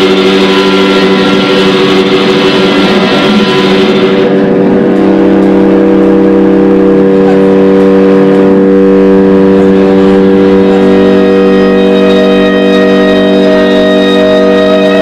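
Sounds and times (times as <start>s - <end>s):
amplified guitar noise drone: 0.0s - 15.0s.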